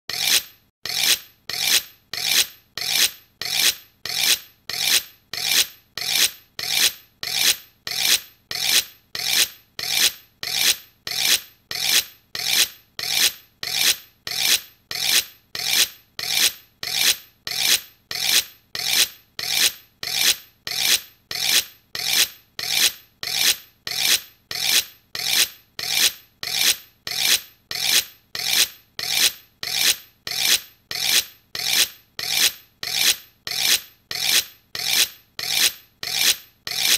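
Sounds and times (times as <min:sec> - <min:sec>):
knife blades scraping together: 0:00.1 - 0:36.9.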